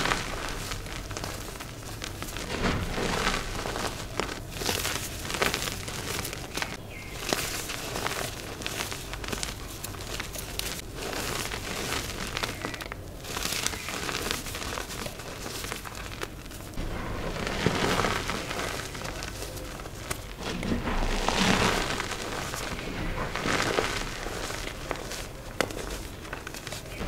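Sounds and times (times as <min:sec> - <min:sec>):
chalk crunching and crackling: 0:00.0 - 0:27.0.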